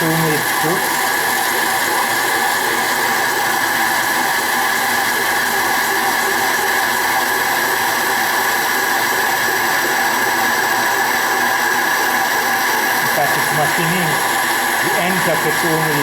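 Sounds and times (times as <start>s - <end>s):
high-pitched machine whine: 0.0s - 16.0s
metal lathe whirring: 0.0s - 16.0s.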